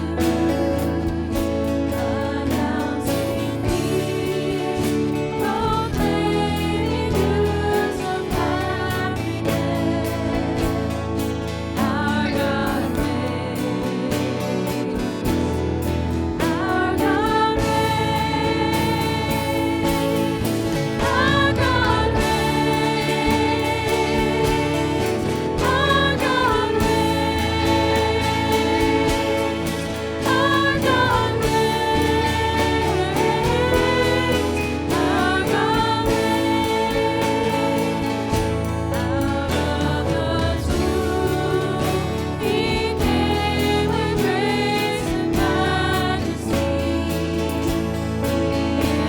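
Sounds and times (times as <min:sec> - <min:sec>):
choir singing church music: 0:00.0 - 0:49.0
instrumental accompaniment: 0:00.0 - 0:49.0.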